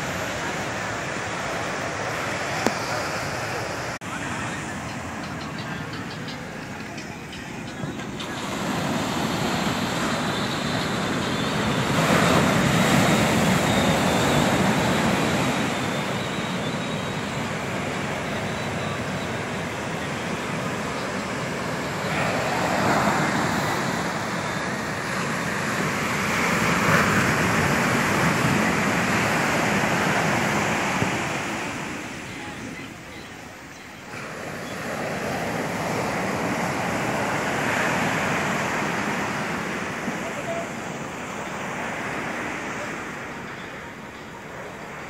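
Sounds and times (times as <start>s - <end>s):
waves breaking on a beach: 0.0s - 45.0s.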